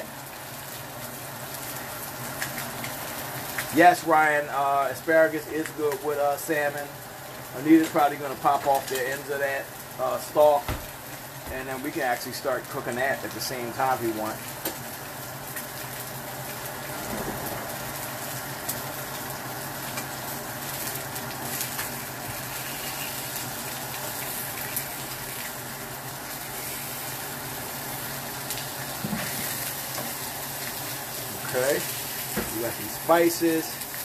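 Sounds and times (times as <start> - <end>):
fish sizzling in oil: 0.0 - 34.0.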